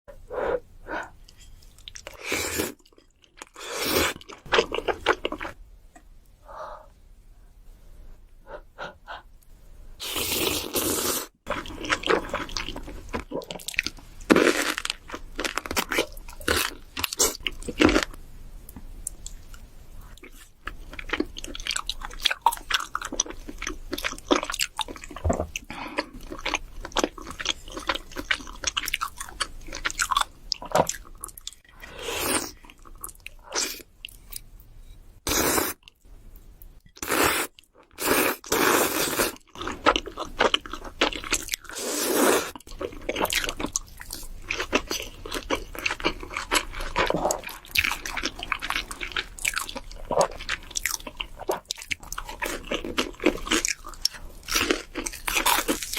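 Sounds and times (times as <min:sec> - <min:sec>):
person chewing crunchy food: 0:01.8 - 0:05.6, 0:10.0 - 0:18.2, 0:20.1 - 0:34.6, 0:37.0 - 0:55.9.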